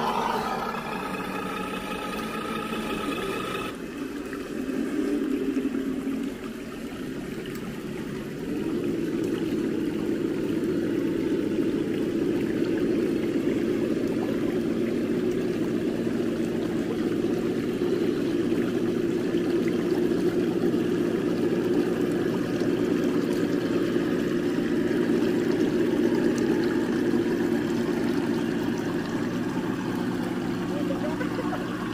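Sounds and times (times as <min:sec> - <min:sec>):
water rushing in stream: 0:00.0 - 0:31.9.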